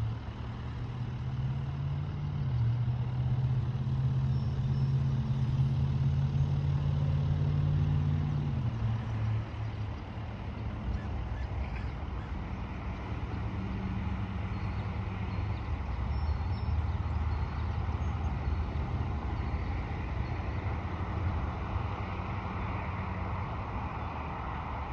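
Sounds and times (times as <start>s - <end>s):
engine rumbling: 0.0s - 24.9s.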